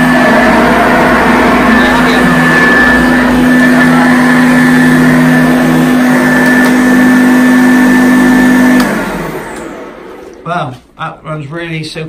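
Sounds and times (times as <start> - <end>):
vacuum cleaner running: 0.0 - 11.7.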